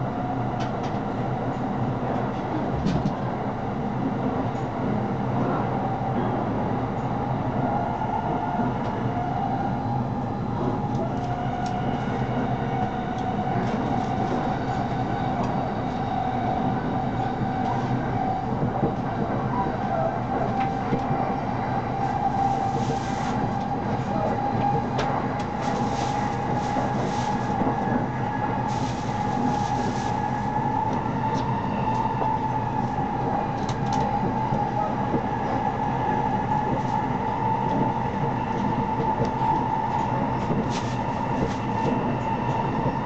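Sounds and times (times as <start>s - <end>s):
train running noise inside carriage: 0.0s - 43.0s.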